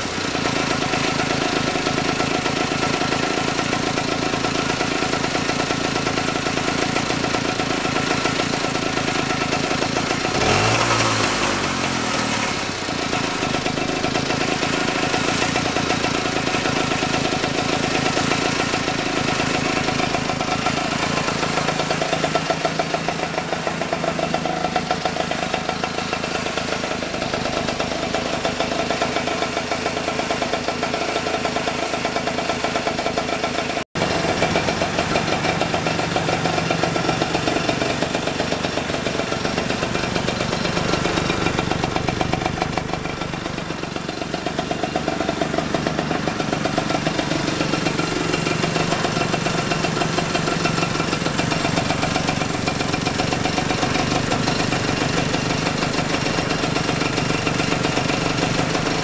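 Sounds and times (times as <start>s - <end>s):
single-cylinder engine idling: 0.0s - 59.0s.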